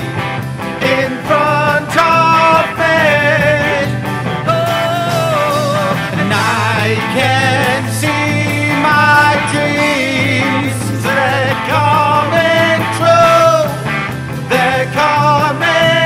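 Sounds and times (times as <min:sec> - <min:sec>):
acoustic and electric guitars: 0:00.0 - 0:16.0
man singing: 0:00.0 - 0:16.0.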